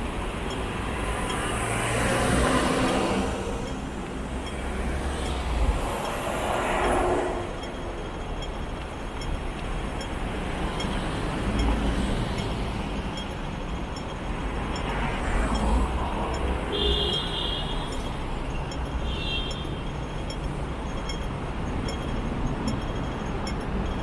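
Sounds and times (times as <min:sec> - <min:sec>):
road traffic rumble: 0:00.0 - 0:24.0
vehicles passing: 0:00.0 - 0:24.0.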